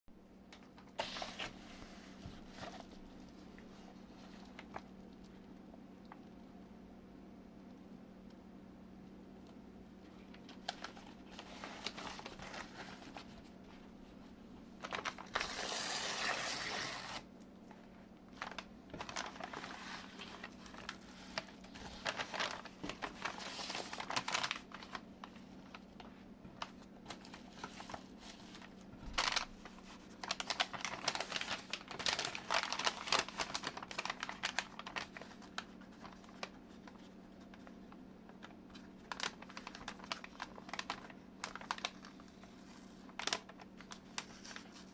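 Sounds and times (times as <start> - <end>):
faint steady hum: 0.1 - 44.9
packaging rustling: 0.6 - 5.0, 10.2 - 13.7, 14.8 - 17.3, 18.3 - 44.9.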